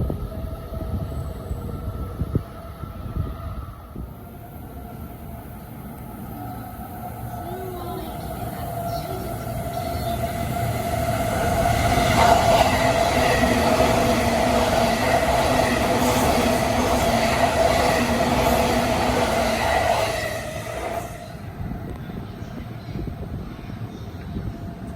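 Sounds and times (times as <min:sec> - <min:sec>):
electric train passing at speed: 0:00.0 - 0:24.9.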